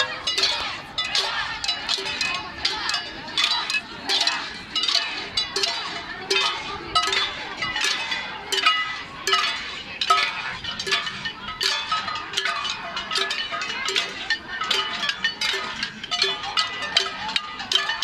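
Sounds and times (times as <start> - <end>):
bell-like metal ringing: 0.0 - 18.0.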